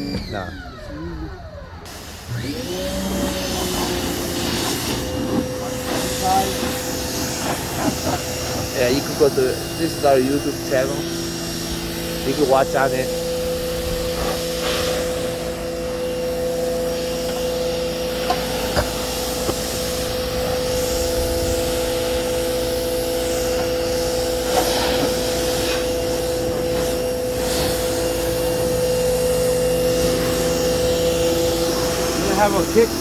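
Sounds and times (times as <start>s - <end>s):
pressure washer motor whine: 0.0s - 33.0s
water spray hissing: 1.9s - 33.0s.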